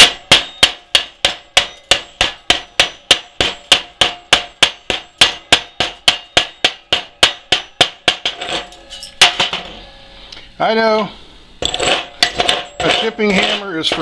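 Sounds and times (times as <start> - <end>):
chipping hammer striking metal: 0.0 - 9.8, 11.6 - 14.0.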